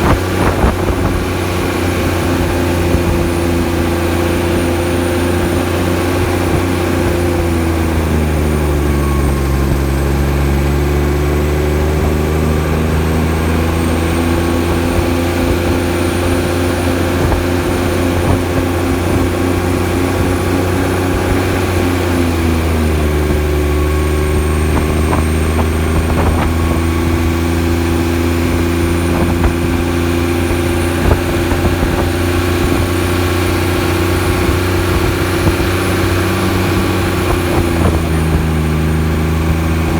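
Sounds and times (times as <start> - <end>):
truck engine brake drone: 0.0 - 39.9.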